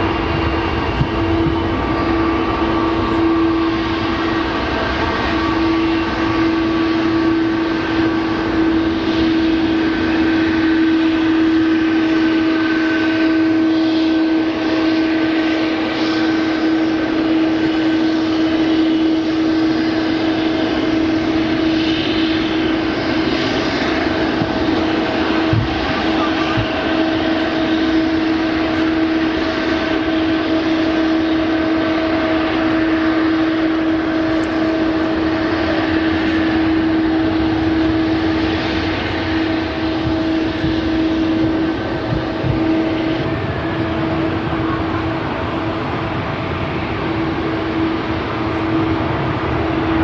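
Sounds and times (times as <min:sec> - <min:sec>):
jet engines humming: 0:00.0 - 0:50.0.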